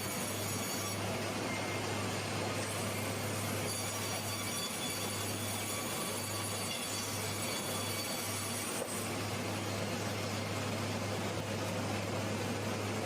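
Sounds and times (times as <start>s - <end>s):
wood-processing machinery hum: 0.0s - 13.0s.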